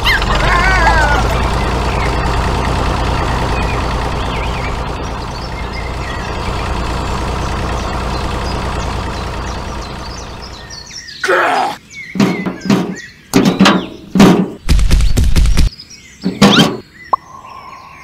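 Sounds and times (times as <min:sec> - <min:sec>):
tractor engine rumbling: 0:00.0 - 0:15.7.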